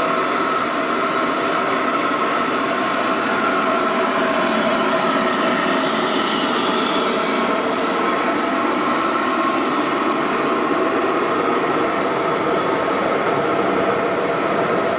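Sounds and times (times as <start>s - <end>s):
air compressor humming and whining: 0.0s - 14.9s.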